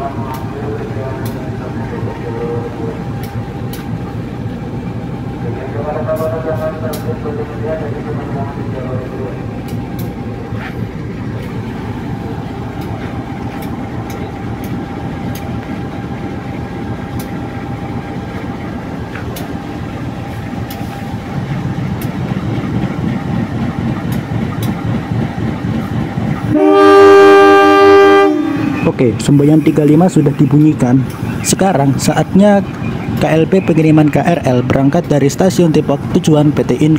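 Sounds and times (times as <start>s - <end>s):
diesel locomotive engine idling: 0.0s - 36.9s.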